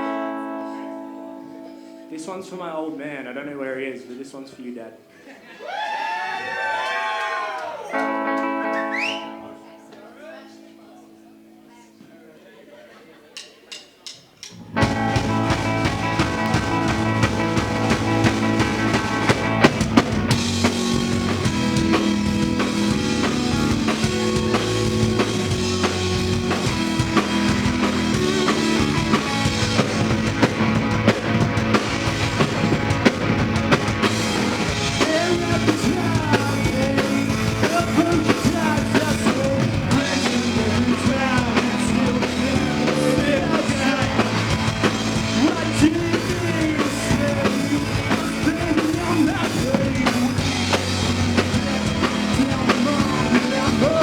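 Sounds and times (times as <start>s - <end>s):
rock band playing: 0.0s - 2.5s, 7.9s - 10.8s, 14.0s - 54.0s.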